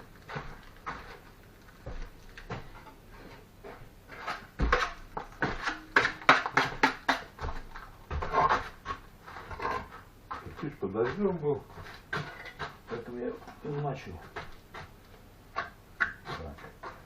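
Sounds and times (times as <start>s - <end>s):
brick and mortar knocks and scrapes: 0.0s - 17.0s.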